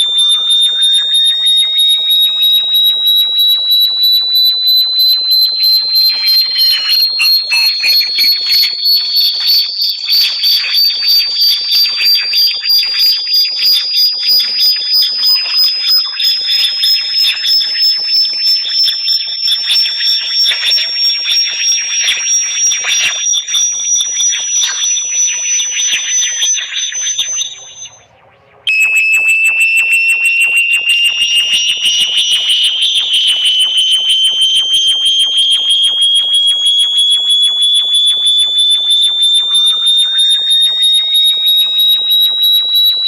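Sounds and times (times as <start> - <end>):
pulsing high-pitched electronic tone: 0.0 - 43.0.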